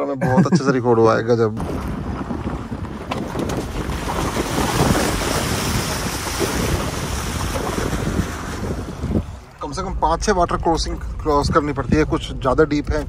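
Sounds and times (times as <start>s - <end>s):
water splashing around car wheels: 1.5s - 13.0s.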